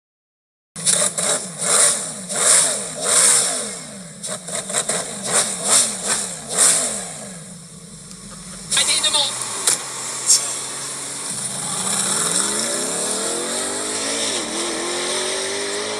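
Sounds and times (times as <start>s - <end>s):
car engine revving: 0.8s - 15.9s.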